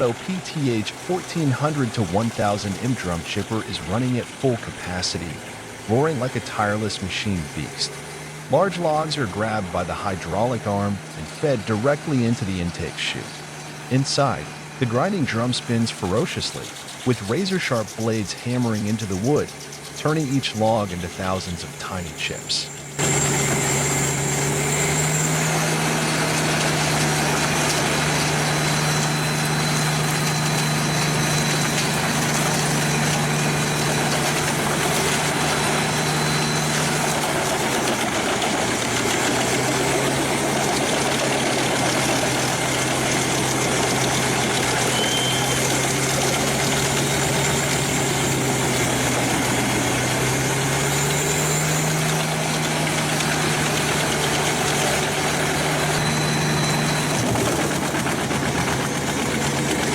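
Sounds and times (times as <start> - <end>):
drum chipper grinding logs: 0.0 - 59.9
engine drone: 0.0 - 59.9.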